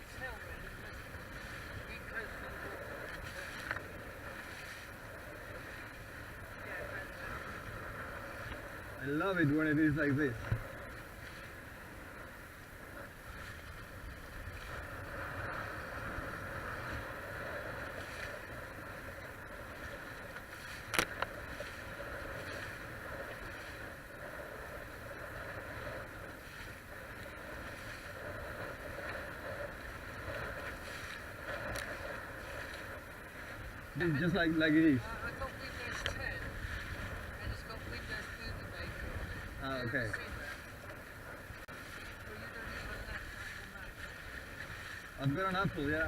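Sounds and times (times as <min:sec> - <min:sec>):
rushing water: 0:00.0 - 0:46.0
wind: 0:00.0 - 0:46.0.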